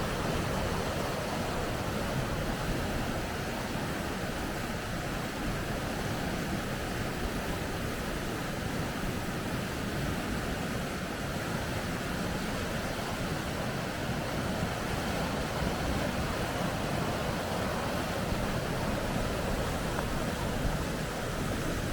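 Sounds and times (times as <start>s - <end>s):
river rapids rushing: 0.0s - 21.9s.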